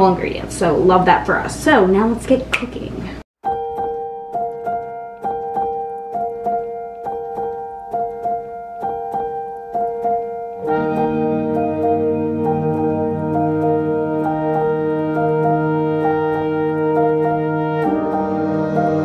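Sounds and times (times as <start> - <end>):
keyboard playing repeating notes: 3.4 - 19.0
lower music layer: 3.4 - 19.0.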